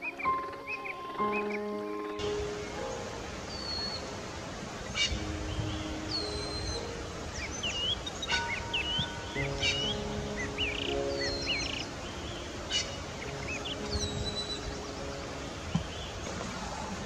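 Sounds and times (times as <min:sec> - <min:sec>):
small birds chirping: 0:00.0 - 0:17.0
soft background music: 0:00.0 - 0:17.0
steady hiss: 0:00.0 - 0:17.0.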